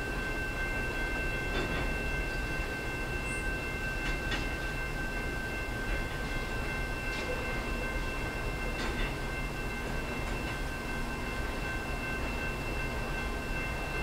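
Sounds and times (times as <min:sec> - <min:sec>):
distant train rumble: 0:00.0 - 0:14.0.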